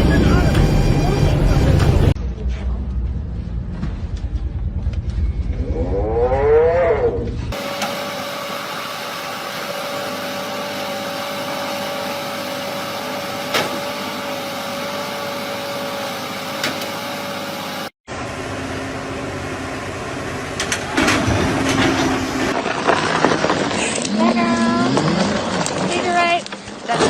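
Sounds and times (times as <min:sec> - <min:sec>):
vehicle running with whine: 0:00.0 - 0:22.6.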